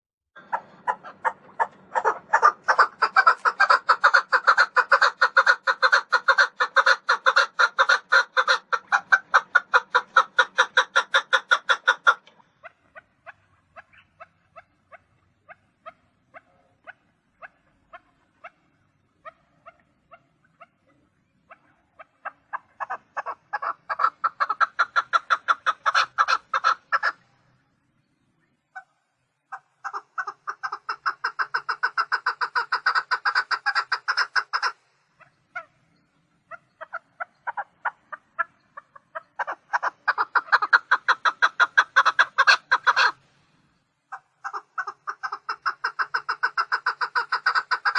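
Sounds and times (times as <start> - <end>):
partridge calling: 0.4 - 43.2, 44.0 - 47.9.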